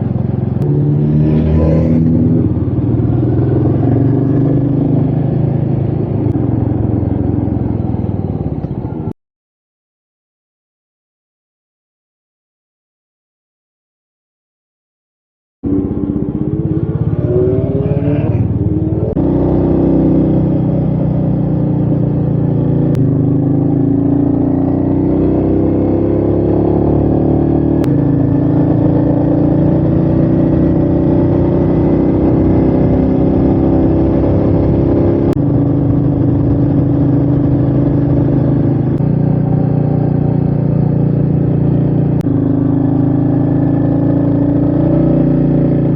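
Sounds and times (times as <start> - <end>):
motorcycle engine running: 0.0 - 9.1, 15.6 - 45.9.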